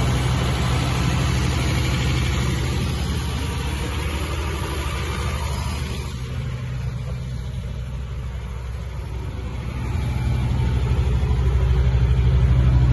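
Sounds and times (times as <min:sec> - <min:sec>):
diesel generator engine drone: 0:00.0 - 0:12.9.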